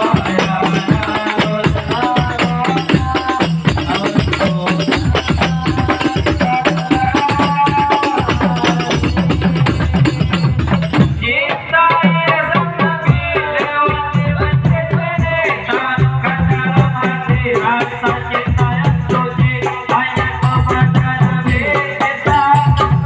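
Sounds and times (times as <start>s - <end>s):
devotional music with frame drums: 0.0s - 23.0s.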